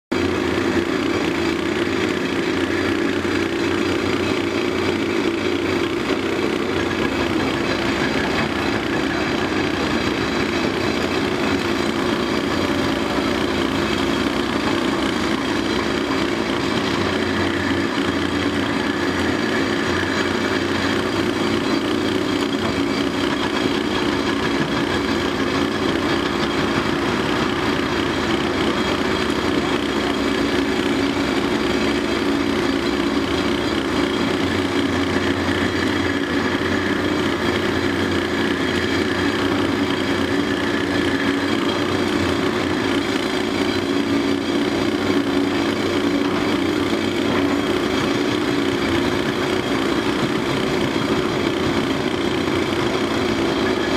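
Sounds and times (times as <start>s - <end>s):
excavator diesel engine running: 0.1s - 53.9s.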